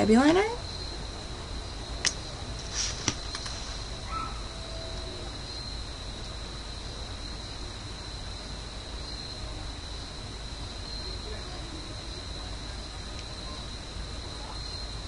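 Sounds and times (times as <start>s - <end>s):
high steady whine: 0.0s - 15.0s
steady hiss: 0.0s - 15.0s.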